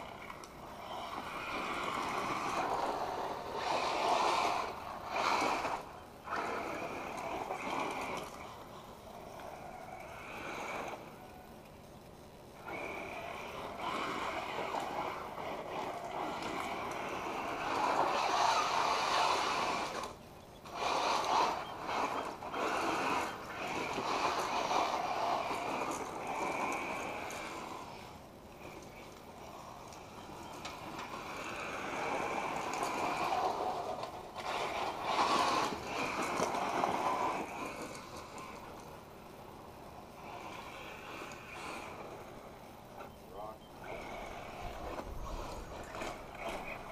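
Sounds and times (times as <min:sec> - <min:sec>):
rc truck motor whine: 0:00.0 - 0:46.9
tyres churning gravel: 0:00.0 - 0:46.9.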